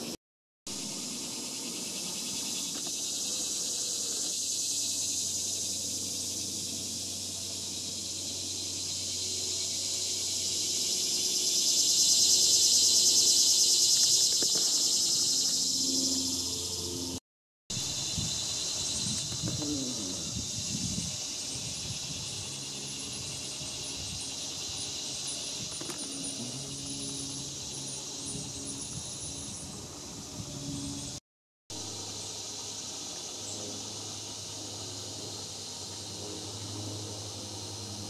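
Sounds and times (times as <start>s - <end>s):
insects buzzing: 0.0s - 38.0s.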